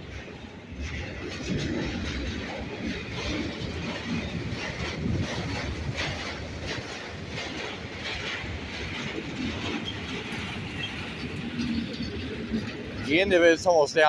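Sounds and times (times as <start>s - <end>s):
train rumble: 0.0s - 14.0s
train wheels clacking over rail joints: 0.0s - 14.0s.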